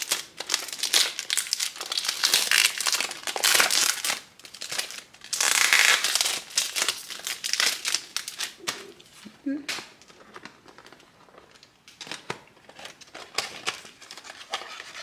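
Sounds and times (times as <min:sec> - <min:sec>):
cellophane crinkling: 0:00.0 - 0:15.0.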